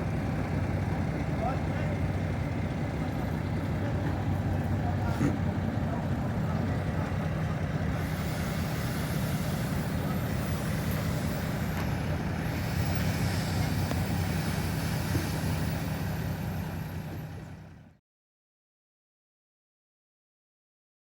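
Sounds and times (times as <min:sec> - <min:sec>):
truck diesel engine humming: 0:00.0 - 0:18.0.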